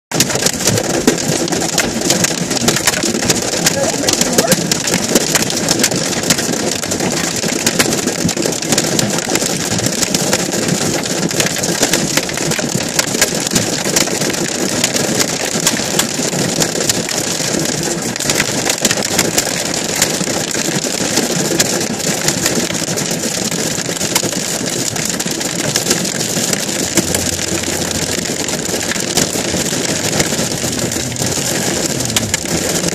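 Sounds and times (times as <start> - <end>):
hail and rain pattering: 0.1 - 32.9.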